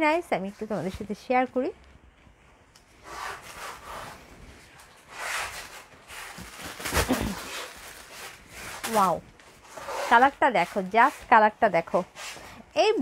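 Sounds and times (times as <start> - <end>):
fabric rustling: 0.4 - 13.0.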